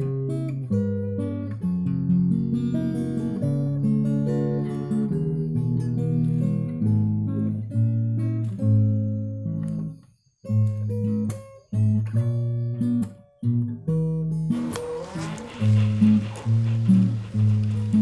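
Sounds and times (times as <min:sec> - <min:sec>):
plucked guitar tune: 0:00.0 - 0:18.0.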